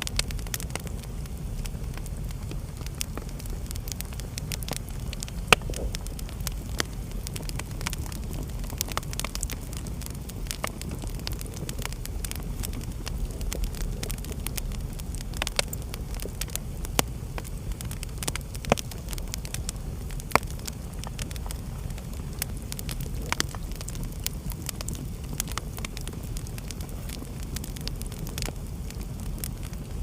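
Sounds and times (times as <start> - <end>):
wood fire burning and crackling: 0.0 - 30.0.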